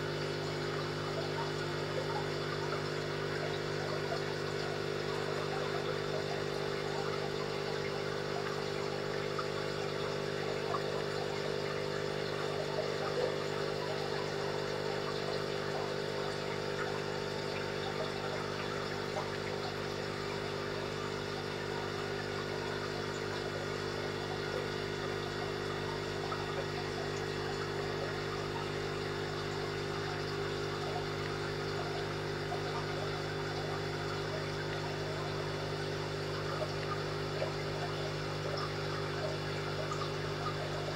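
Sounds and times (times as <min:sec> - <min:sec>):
aquarium filter pump hum: 0:00.0 - 0:40.9
water trickling and bubbling: 0:00.0 - 0:40.9.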